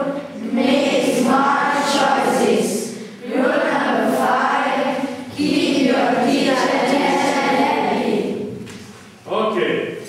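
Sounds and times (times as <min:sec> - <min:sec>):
children chanting in unison: 0:00.0 - 0:08.6.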